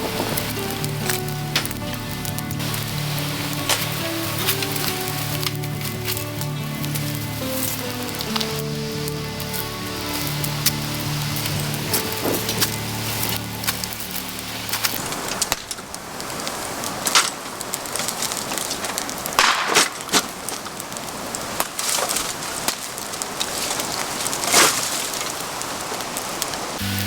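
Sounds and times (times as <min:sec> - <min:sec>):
sharp pops and cracks: 0:00.0 - 0:26.6
fire crackling and hissing: 0:00.0 - 0:27.0.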